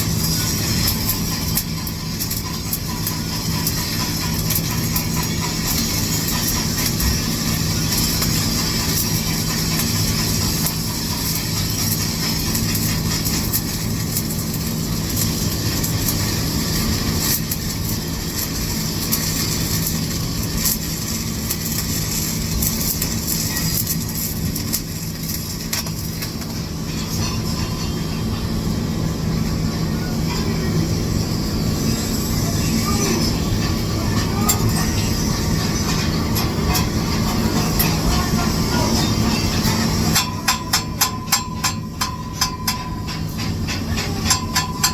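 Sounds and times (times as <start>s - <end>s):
welding arc crackling: 0.0s - 44.9s.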